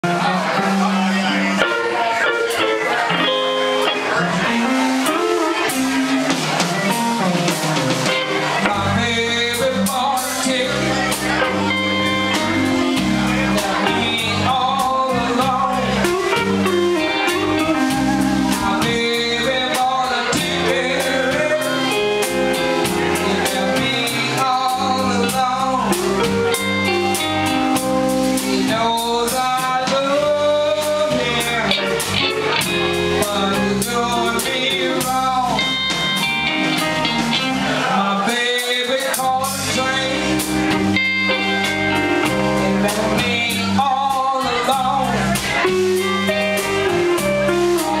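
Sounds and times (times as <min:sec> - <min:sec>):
drum kit: 0:00.0 - 0:48.0
electric bass: 0:00.0 - 0:48.0
electric guitar: 0:00.0 - 0:48.0.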